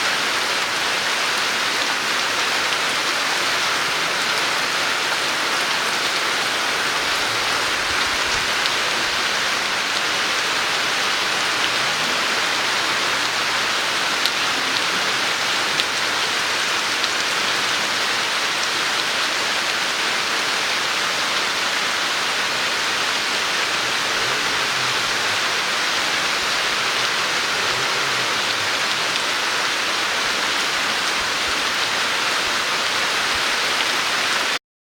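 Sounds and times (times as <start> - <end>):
heavy rain falling: 0.0 - 34.6.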